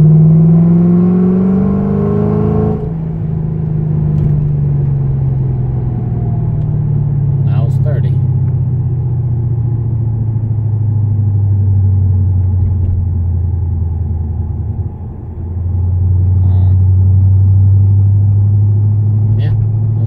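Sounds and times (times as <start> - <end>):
car exhaust rumble from inside: 0.0 - 20.0.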